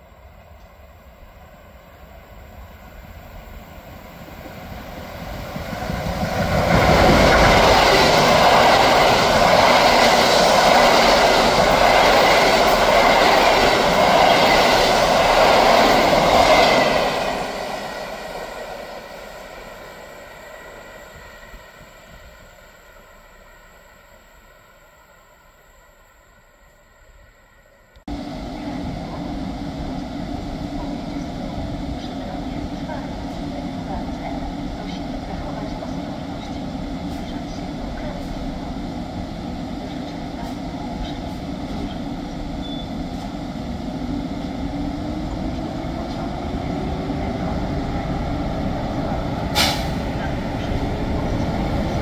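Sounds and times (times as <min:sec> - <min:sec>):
passenger train passing: 0:00.0 - 0:52.0.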